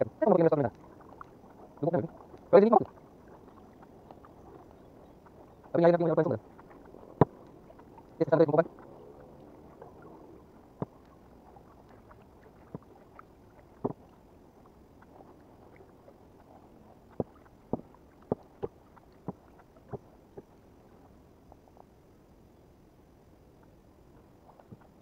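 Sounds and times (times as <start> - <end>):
water wash: 0.0 - 22.3.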